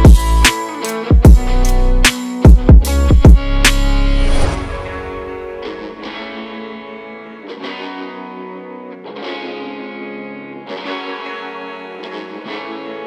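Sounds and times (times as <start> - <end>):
sustained guitar chords: 0.0 - 13.0.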